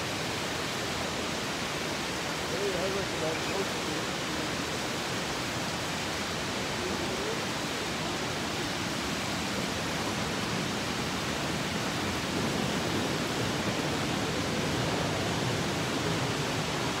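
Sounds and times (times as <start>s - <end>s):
fountain water splashing into pond: 0.0s - 17.0s.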